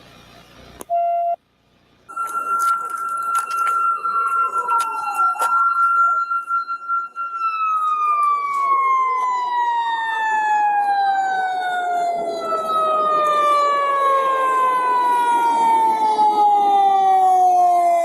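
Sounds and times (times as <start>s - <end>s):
second siren dipping in pitch: 2.1s - 18.0s
siren winding down: 2.1s - 18.0s.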